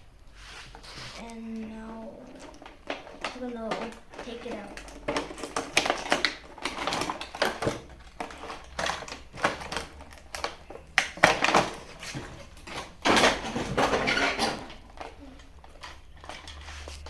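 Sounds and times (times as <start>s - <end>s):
plastic packaging rustling: 0.4s - 17.0s
hard plastic parts clattering: 0.7s - 17.0s.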